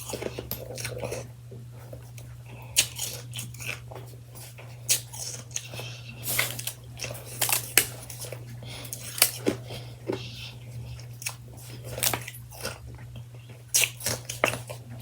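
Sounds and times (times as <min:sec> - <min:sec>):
person chewing crunchy ice: 0:00.0 - 0:15.0.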